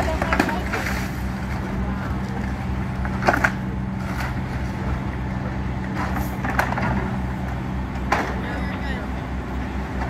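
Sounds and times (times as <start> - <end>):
diesel engines humming: 0.0 - 10.0.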